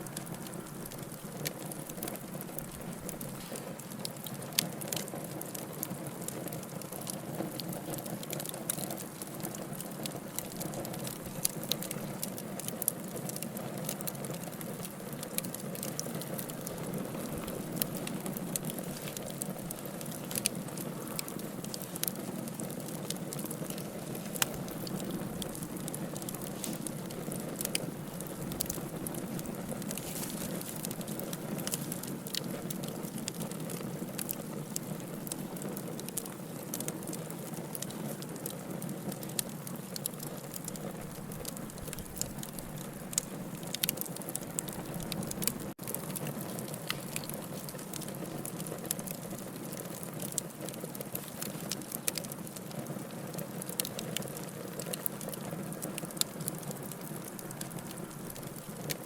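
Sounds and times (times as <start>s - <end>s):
campfire burning: 0.0s - 59.0s.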